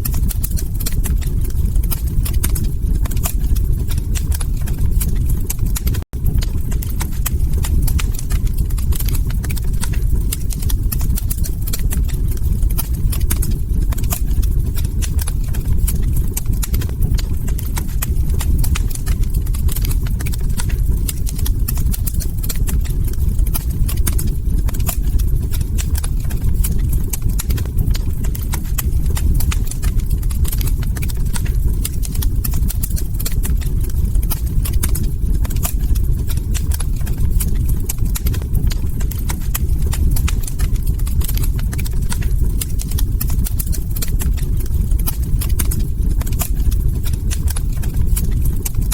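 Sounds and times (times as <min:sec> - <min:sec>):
log fire crackling: 0:00.0 - 0:48.9.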